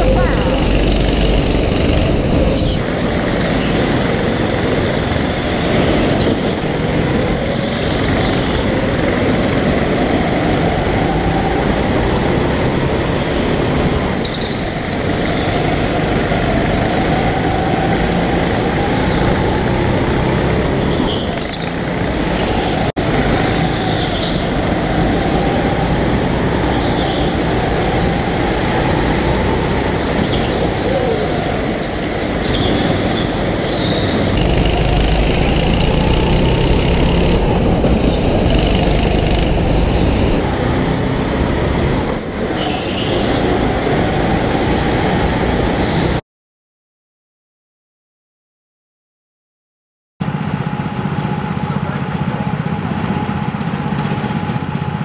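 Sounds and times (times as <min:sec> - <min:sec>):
go-kart engine running hard: 0:00.0 - 0:46.2, 0:50.2 - 0:55.0.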